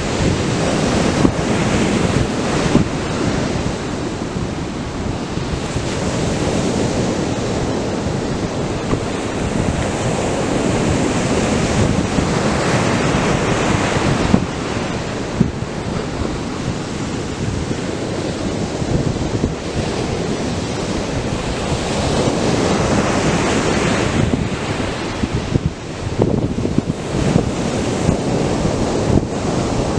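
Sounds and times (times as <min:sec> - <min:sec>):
surf breaking on beach: 0:00.0 - 0:29.9
wind buffeting microphone: 0:00.0 - 0:29.9.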